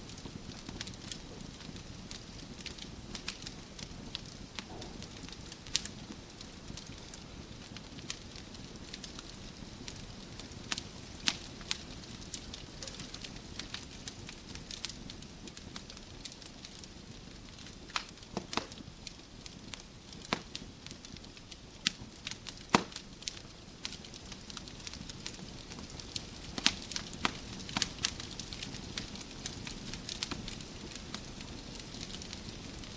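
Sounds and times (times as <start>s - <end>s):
fire popping: 0.0s - 32.9s
wood fire crackling and hissing: 0.0s - 32.9s.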